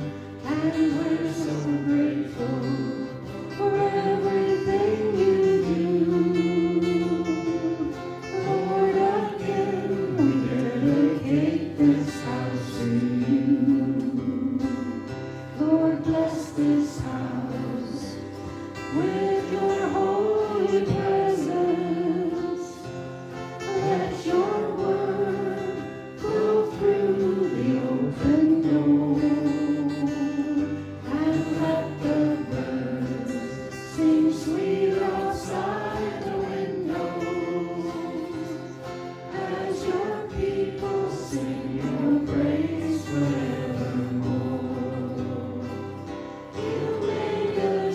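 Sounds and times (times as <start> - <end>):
group of voices singing: 0.0 - 47.9
guitar accompaniment: 0.0 - 47.9.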